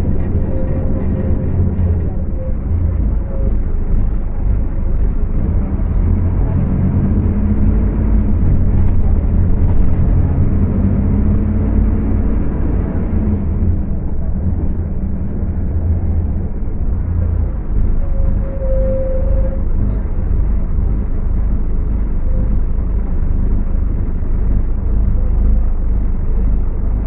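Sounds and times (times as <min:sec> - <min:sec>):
diesel bus engine rumbling: 0:00.0 - 0:27.0.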